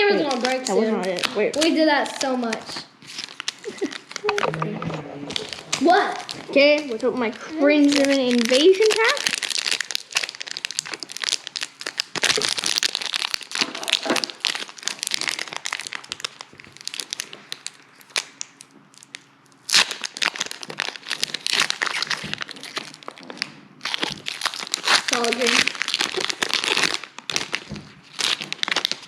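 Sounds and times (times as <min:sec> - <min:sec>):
foil wrapper crinkling: 0:00.0 - 0:04.5, 0:05.3 - 0:29.0.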